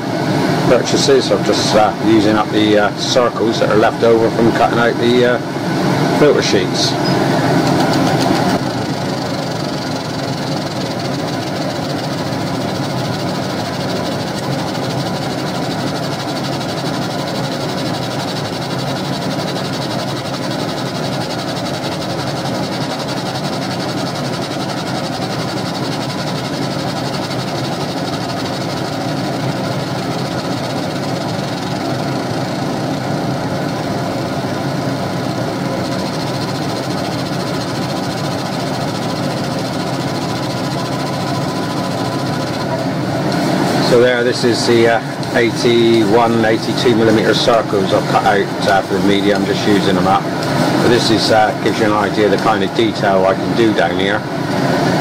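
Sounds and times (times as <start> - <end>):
laser engraver humming: 0.0 - 55.0.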